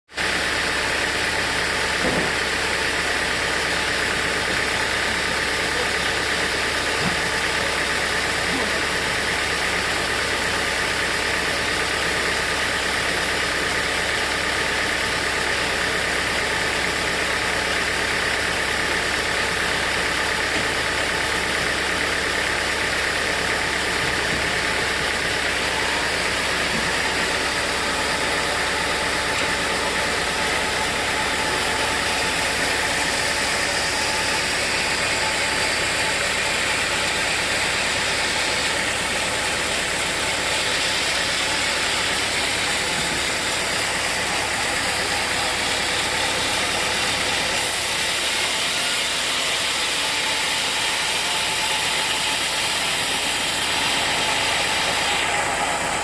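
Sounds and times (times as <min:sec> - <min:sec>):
sawmill machinery drone: 0:00.1 - 0:56.0.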